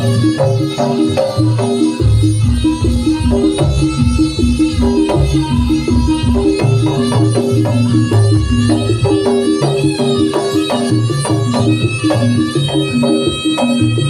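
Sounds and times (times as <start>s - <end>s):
drum beats: 0.0s - 14.0s
pitched struck notes: 0.0s - 14.0s.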